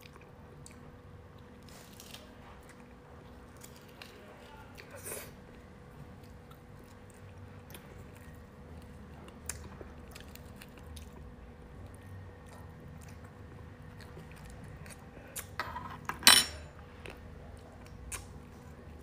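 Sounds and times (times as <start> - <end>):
faint chewing: 0.0 - 15.6.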